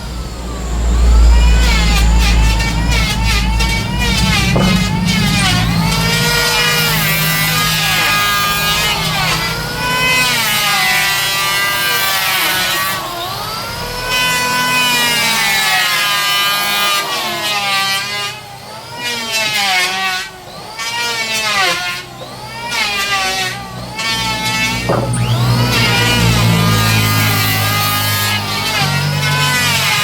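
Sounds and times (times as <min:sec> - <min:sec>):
power tool motor whining: 0:00.0 - 0:30.0.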